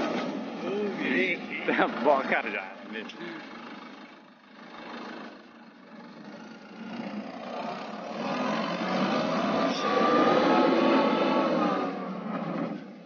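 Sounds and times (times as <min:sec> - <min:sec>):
combine harvester diesel engine: 0:00.0 - 0:13.0.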